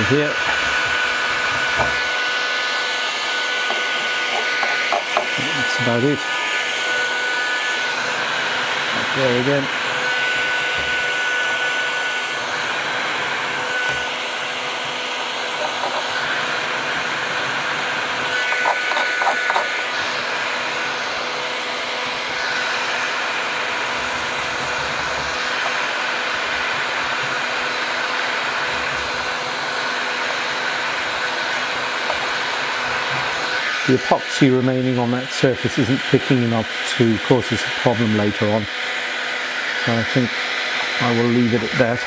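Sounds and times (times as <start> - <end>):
heat gun blowing air: 0.0 - 42.0.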